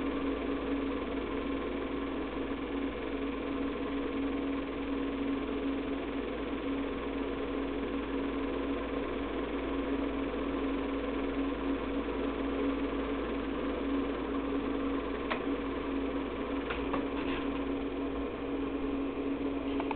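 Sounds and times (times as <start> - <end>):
film projector whirring: 0.0 - 19.9.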